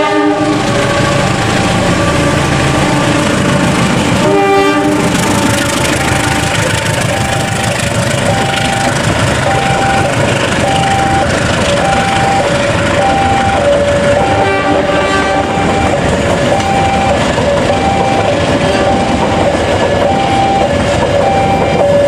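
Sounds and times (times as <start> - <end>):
level crossing warning alarm: 0.0 - 22.0
train carriages running past: 0.0 - 22.0.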